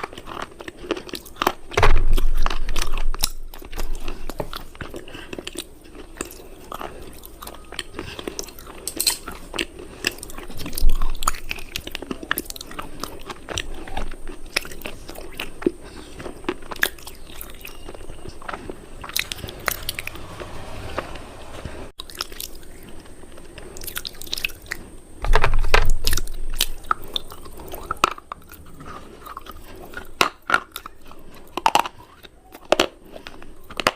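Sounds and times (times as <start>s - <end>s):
person crunching brittle food: 0.0s - 20.0s, 22.0s - 33.9s.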